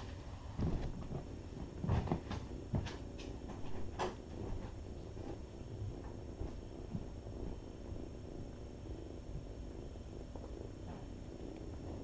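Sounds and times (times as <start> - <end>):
kittens purring: 0.0 - 12.0.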